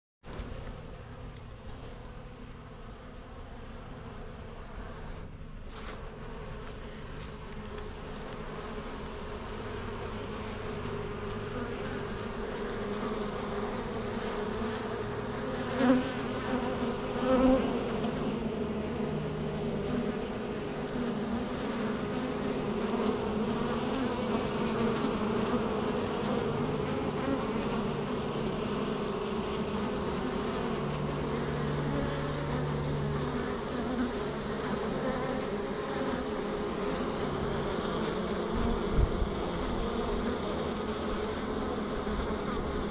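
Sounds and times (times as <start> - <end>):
bees buzzing: 0.6 - 42.9
single bee buzzing loudly: 1.7 - 42.9.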